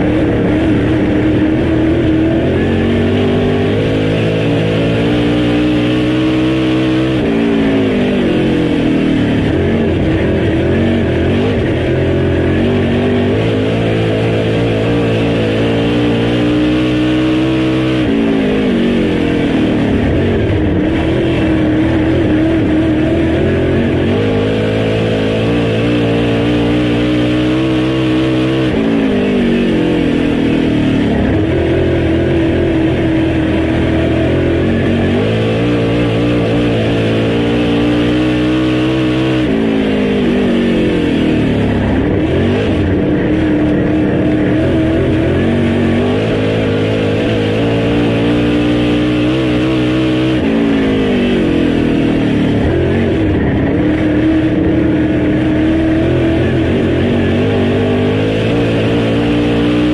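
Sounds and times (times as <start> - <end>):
race car engine at speed: 0.0 - 59.9.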